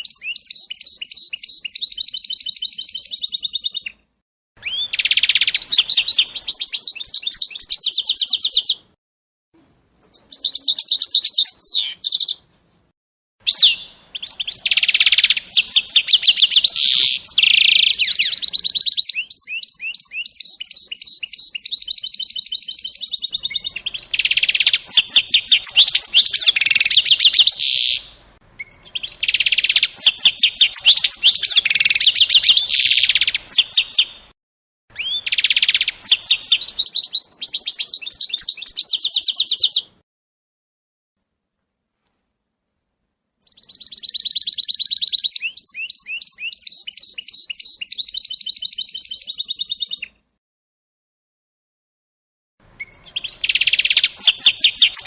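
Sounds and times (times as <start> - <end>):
songbird trilling: 0.0 - 4.0, 4.6 - 8.8, 10.0 - 12.4, 13.5 - 34.2, 35.0 - 39.9, 43.4 - 50.2, 52.8 - 55.0.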